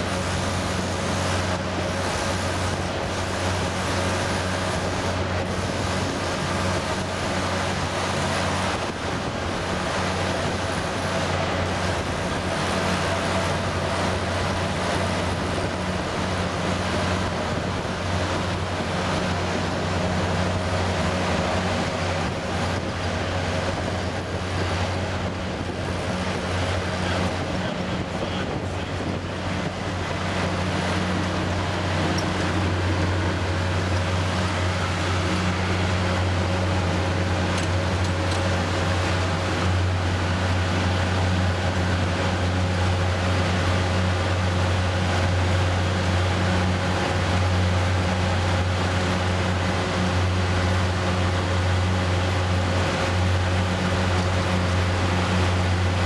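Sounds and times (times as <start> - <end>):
engine growl through exhaust: 0.0 - 56.0.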